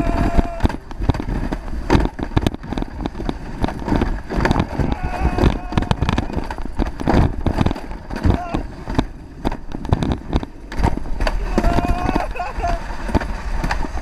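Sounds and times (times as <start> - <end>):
low rumble: 0.0 - 14.0
sled rattling on concrete track: 0.0 - 14.0.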